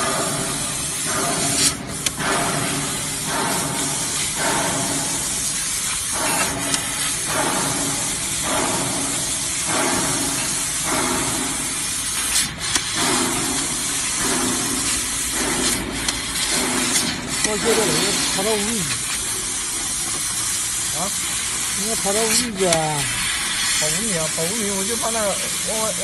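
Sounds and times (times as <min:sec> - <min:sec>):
hiss of assist gas: 0:00.0 - 0:26.0.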